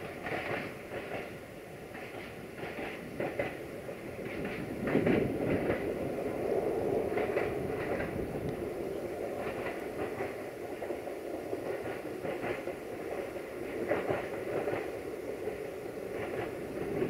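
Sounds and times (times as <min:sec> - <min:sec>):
diesel train running past: 0:00.0 - 0:17.0
wheels clicking over rail joints: 0:00.0 - 0:17.0.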